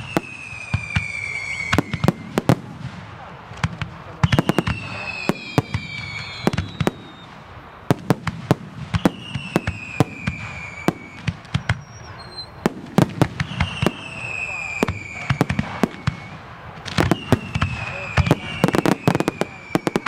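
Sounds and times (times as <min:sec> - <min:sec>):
falling firework whistles: 0:00.0 - 0:02.7, 0:04.2 - 0:20.0.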